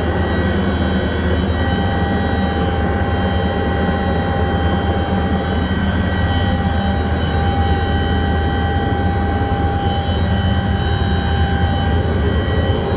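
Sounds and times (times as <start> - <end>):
helicopter rotor drone: 0.0 - 12.9
high engine whine: 0.0 - 12.9.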